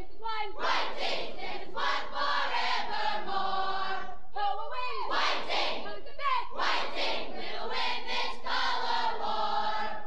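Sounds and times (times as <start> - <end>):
group singing on vinyl record: 0.0 - 10.0.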